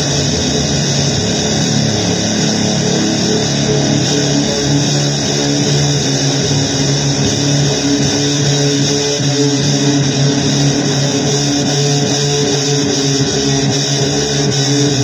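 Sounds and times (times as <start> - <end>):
distorted electric guitar blues: 0.0 - 15.0.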